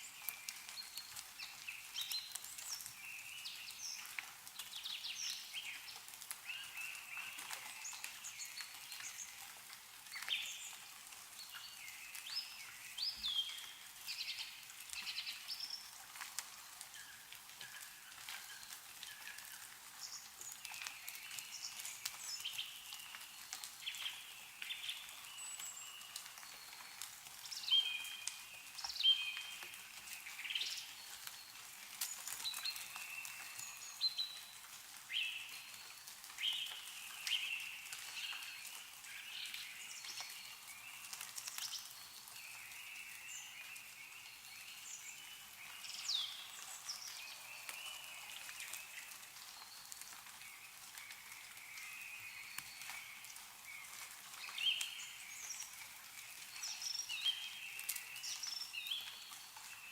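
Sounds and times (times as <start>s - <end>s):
dripping of melting snow: 0.0s - 59.9s
small birds chirping: 0.0s - 59.9s.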